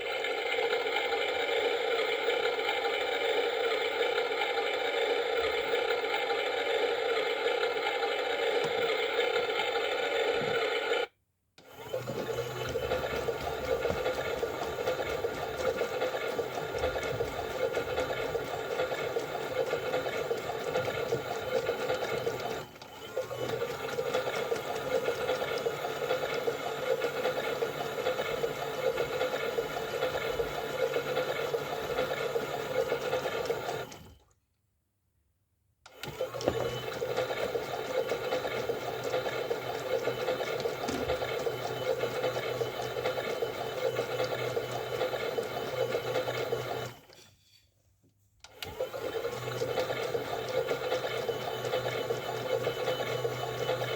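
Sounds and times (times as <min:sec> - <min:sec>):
toy washing machine motor whirring: 0:00.0 - 0:34.3, 0:35.9 - 0:47.6, 0:48.4 - 0:53.9.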